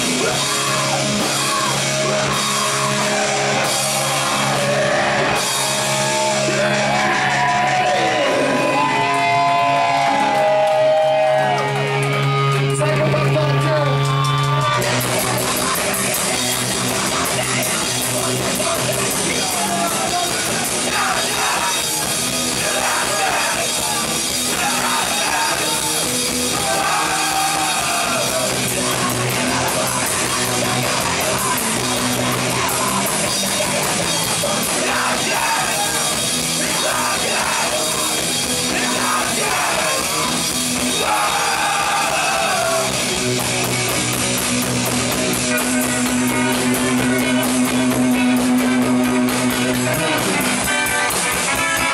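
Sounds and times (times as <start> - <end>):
punk band playing live: 0.0 - 51.9.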